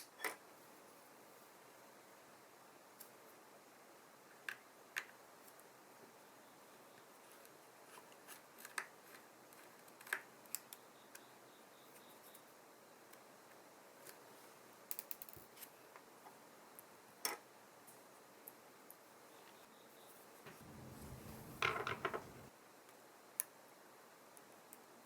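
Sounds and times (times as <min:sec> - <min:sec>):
faint steady hiss: 0:00.5 - 0:22.5.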